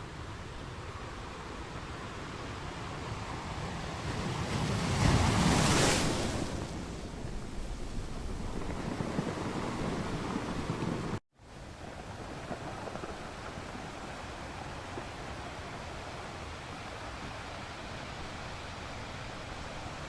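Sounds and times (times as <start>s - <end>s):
sea waves washing on shore: 0.1s - 11.2s, 11.8s - 20.0s.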